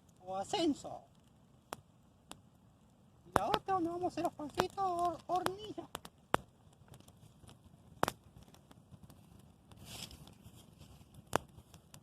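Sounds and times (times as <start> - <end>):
campfire crackling: 0.0 - 12.0
fire hiss: 0.0 - 12.0
sharp pops from burning wood: 0.0 - 12.0.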